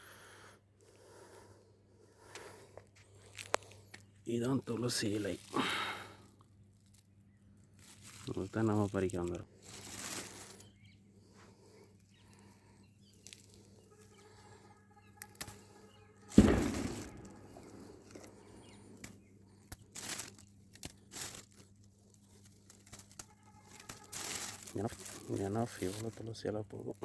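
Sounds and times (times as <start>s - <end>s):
rustling and snapping of plucked sprigs: 2.3s - 27.0s.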